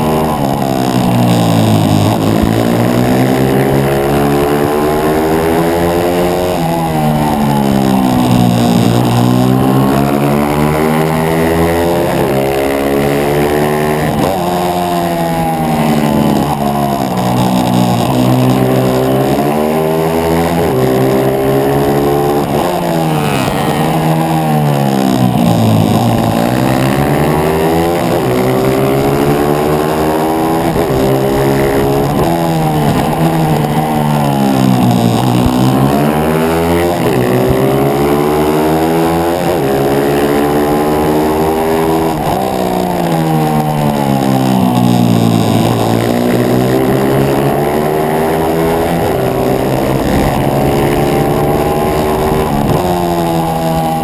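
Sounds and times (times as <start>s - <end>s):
pit bike engine revving: 0.0s - 54.0s.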